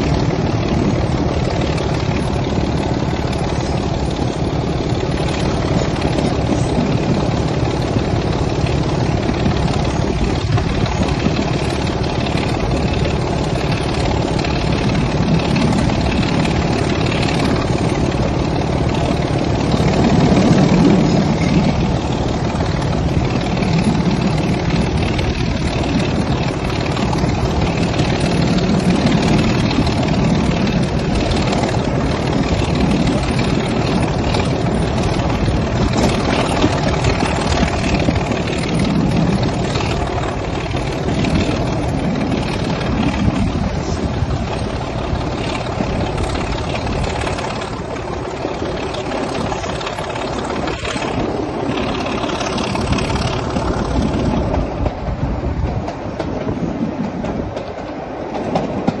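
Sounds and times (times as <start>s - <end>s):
diesel locomotive engine: 0.0s - 59.0s
train wheels on rails: 0.0s - 59.0s.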